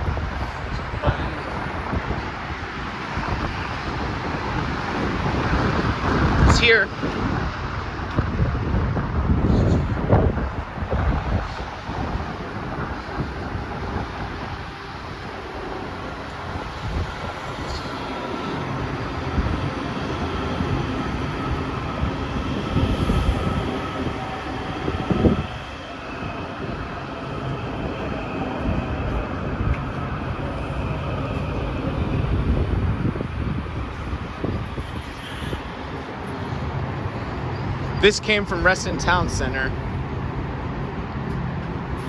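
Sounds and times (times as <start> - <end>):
faint train whine: 0.0 - 42.0
train rail rumble: 0.0 - 42.0.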